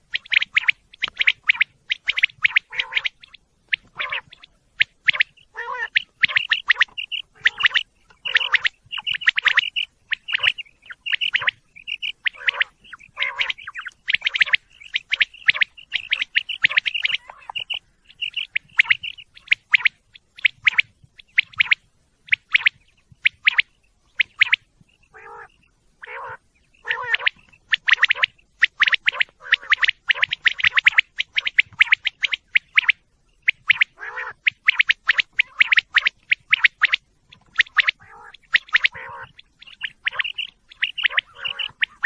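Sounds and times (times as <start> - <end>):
quail calling: 0.0 - 42.0.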